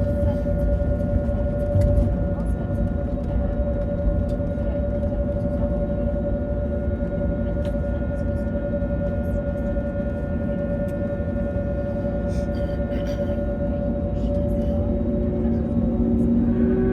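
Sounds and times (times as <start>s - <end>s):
aircraft cabin rumble: 0.0s - 16.9s
mid-pitched whine: 0.0s - 16.9s.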